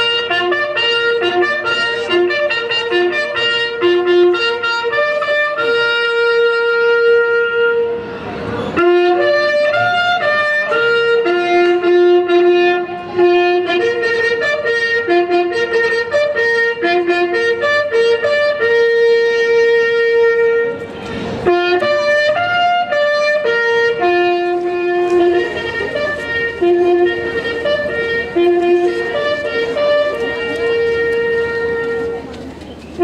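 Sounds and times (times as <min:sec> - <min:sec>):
reedy wind instrument melody: 0:00.0 - 0:33.0.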